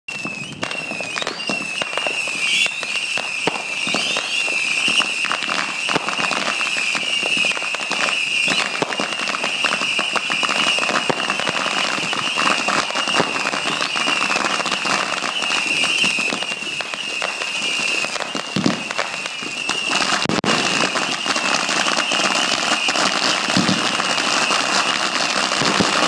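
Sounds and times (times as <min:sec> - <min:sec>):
short rising whistles: 0:00.1 - 0:10.9, 0:11.9 - 0:20.2, 0:20.8 - 0:23.4
fireworks crackles and pops: 0:00.1 - 0:26.0
fireworks high whistle: 0:00.1 - 0:26.0.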